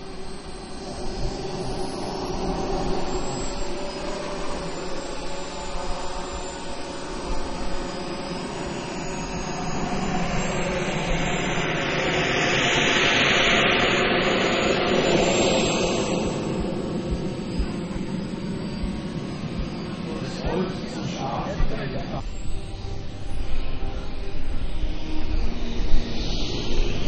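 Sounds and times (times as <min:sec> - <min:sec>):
drone propellers whirring: 0:00.0 - 0:27.0.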